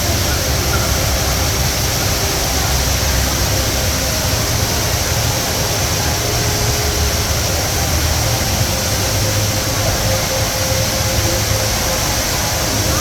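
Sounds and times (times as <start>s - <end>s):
waterfall rushing into basin: 0.0s - 13.0s.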